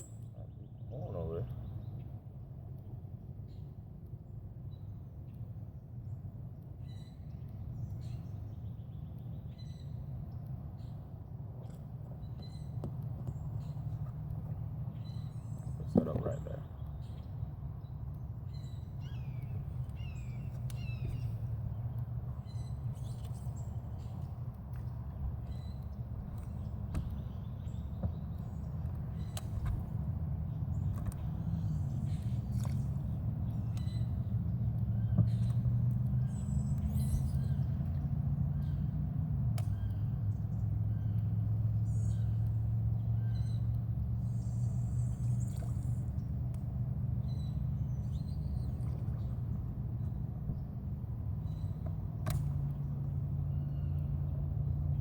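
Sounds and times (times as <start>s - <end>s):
birds chirping: 0.0s - 6.2s, 6.8s - 39.0s, 39.6s - 55.0s
steady low hum: 0.0s - 55.0s
steady low rumble: 0.0s - 55.0s.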